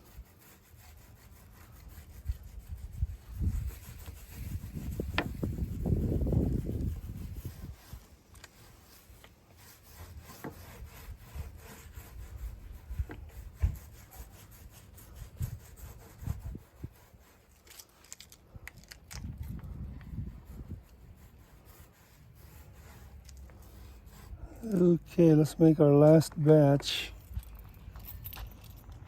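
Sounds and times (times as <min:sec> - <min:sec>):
rubbing and scraping on hard surface: 0:00.0 - 0:29.0.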